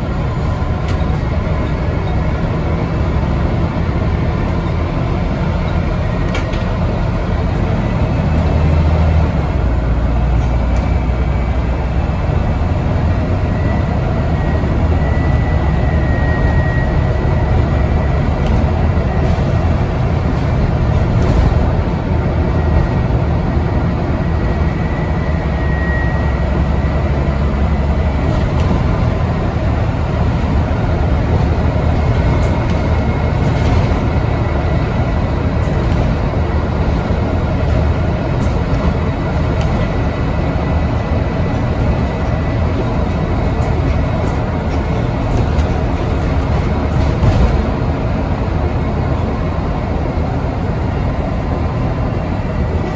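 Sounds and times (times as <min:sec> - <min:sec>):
bus engine droning: 0:00.0 - 0:52.9.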